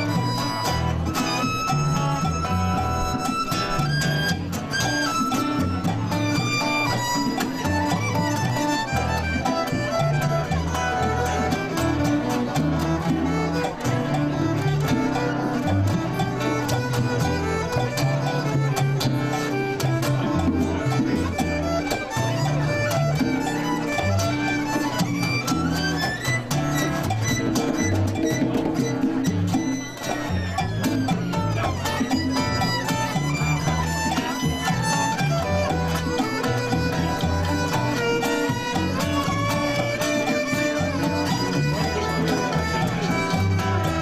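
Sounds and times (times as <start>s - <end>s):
fiddle-led instrumental music: 0.0s - 44.0s
guitar: 0.0s - 44.0s.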